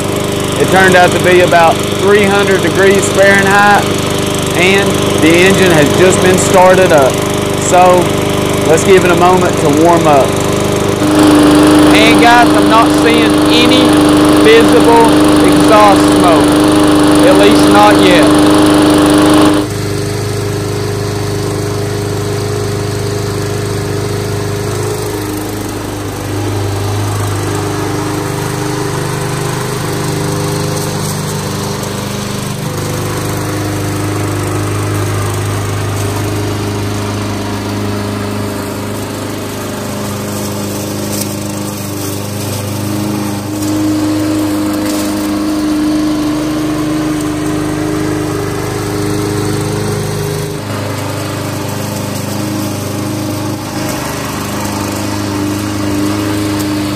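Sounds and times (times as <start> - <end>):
lawn mower engine running: 0.0 - 56.9.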